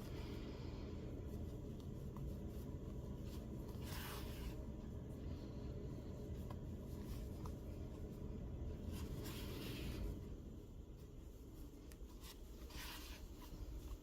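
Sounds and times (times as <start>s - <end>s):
low hum: 0.0s - 14.0s
yarn rustling through stitches: 0.0s - 14.0s.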